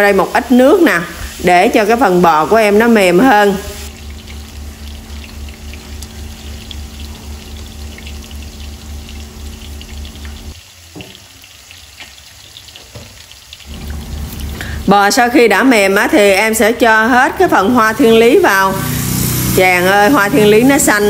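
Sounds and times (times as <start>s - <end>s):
bubbling sizzle in a frying pan: 0.0s - 21.0s.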